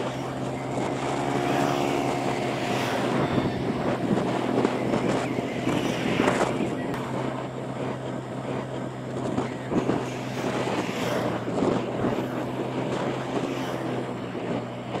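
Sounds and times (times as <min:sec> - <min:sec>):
motorbike engine cruising: 0:00.0 - 0:15.0
wind noise on microphone: 0:00.0 - 0:15.0.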